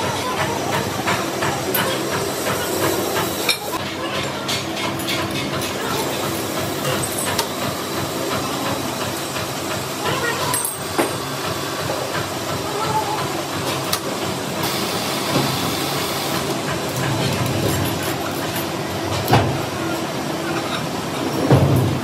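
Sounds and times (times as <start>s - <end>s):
workshop machinery hissing: 0.0s - 22.0s.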